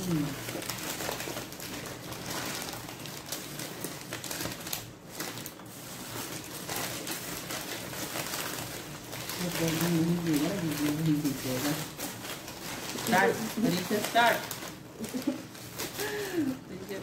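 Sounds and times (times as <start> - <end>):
paper wrappers crinkling: 0.0 - 17.0.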